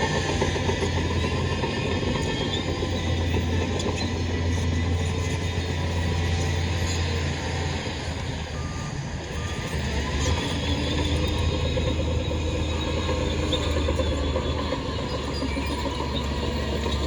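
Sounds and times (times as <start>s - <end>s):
heavy diesel machinery running: 0.0s - 17.0s
reversing beeps: 2.1s - 17.0s.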